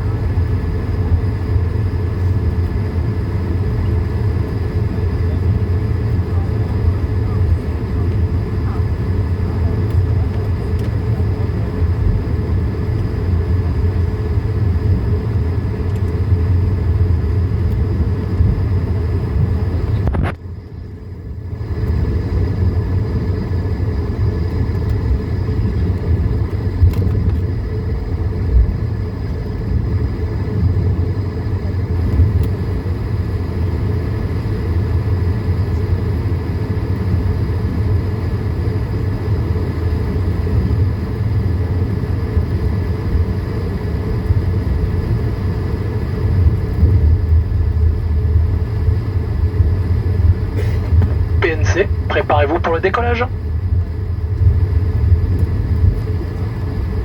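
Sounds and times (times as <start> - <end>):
aircraft cabin low rumble: 0.0 - 57.0.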